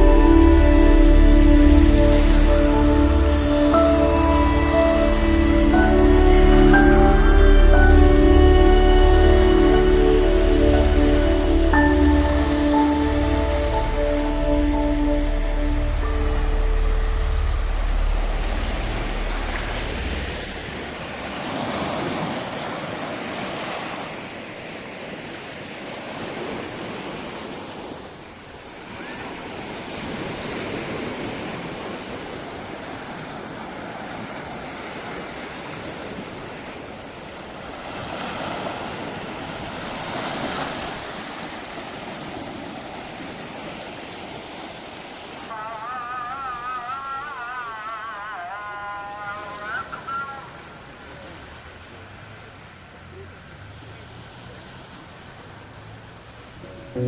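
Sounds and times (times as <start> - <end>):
waves washing onto beach: 0.0 - 57.0.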